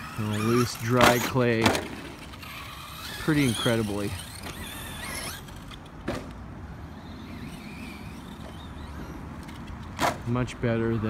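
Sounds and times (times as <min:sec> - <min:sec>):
electric motor whining: 0:00.0 - 0:06.0, 0:06.7 - 0:09.8.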